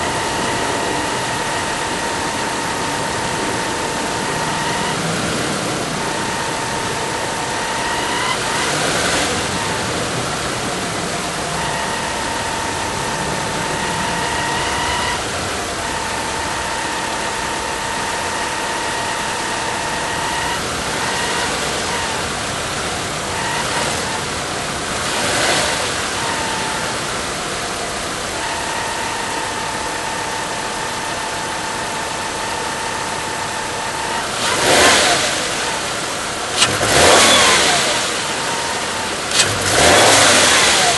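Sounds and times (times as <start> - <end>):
car engine running: 0.0 - 40.9
high pulley whine: 0.0 - 40.9.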